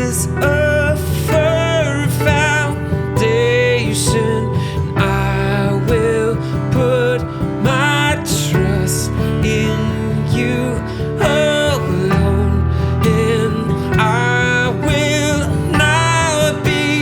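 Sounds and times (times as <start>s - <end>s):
guitar: 0.0s - 17.0s
slow gentle worship song: 0.0s - 17.0s.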